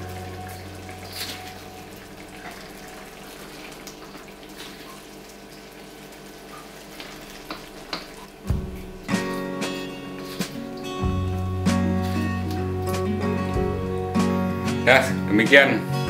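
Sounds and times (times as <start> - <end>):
sauce simmering and sizzling: 0.0 - 16.0.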